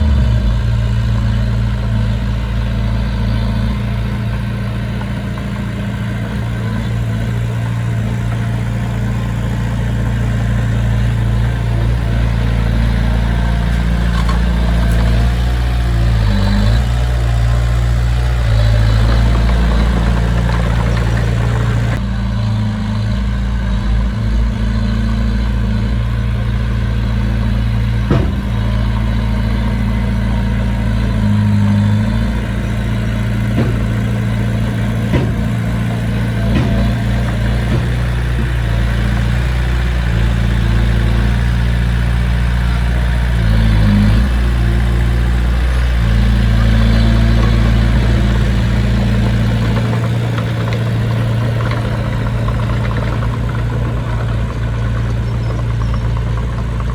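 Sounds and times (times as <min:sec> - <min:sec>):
diesel engine running at low revs: 0:00.0 - 0:56.9.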